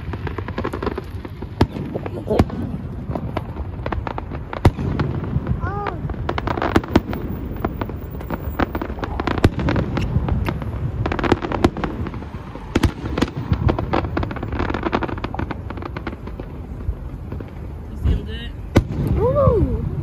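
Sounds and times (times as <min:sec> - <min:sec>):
fireworks cracking and popping: 0:00.0 - 0:20.0.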